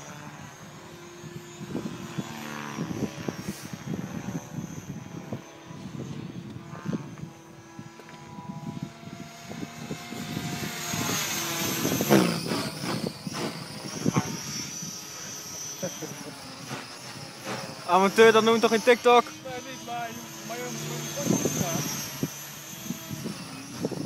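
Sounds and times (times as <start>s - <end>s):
model helicopter rotor hum: 0.0s - 24.0s.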